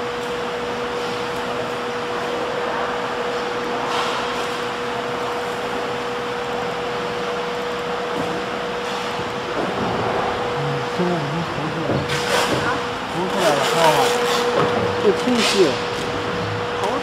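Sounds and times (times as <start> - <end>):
fan-like machine whirring: 0.0 - 17.0.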